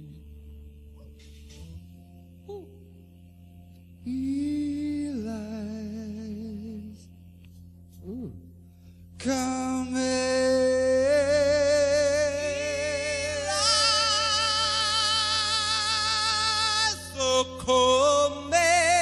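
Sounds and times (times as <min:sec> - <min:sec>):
man singing long vibrato notes: 0:00.0 - 0:00.6, 0:02.4 - 0:02.9, 0:04.0 - 0:07.2, 0:07.9 - 0:19.0.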